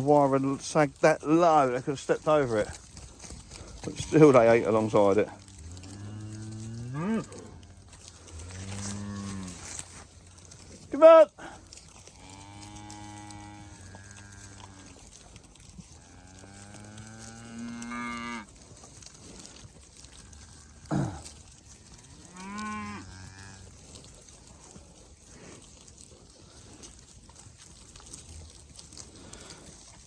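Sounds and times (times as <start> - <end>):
cows mooing: 0.0 - 10.6, 11.4 - 30.0.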